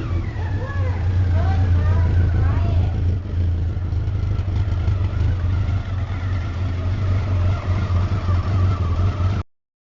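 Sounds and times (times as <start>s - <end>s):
motorcycle engine idling: 0.0s - 9.4s.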